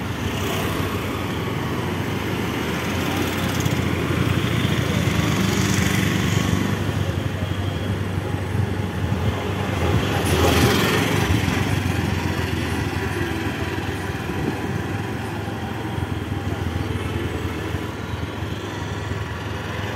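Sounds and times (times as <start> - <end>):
road noise: 0.0 - 19.9.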